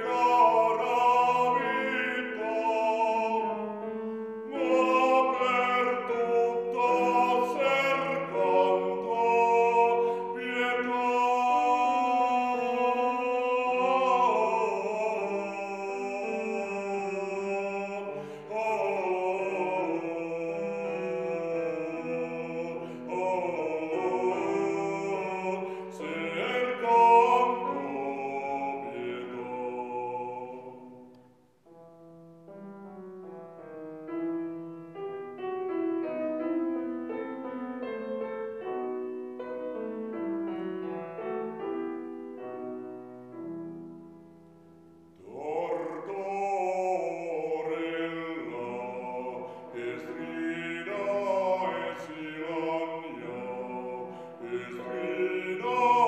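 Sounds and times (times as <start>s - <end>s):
man singing classical: 0.0s - 31.7s, 34.8s - 56.0s
grand piano: 0.0s - 56.0s.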